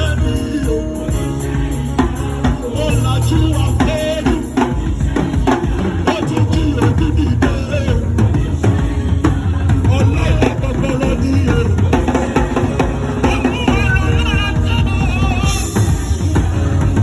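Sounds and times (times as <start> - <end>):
bass line: 0.0 - 17.0
drum kit: 0.0 - 17.0
voices singing: 0.0 - 17.0.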